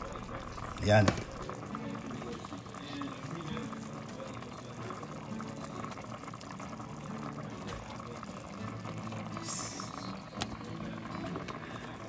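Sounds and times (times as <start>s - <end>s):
broth bubbling in a pot: 0.0s - 12.0s.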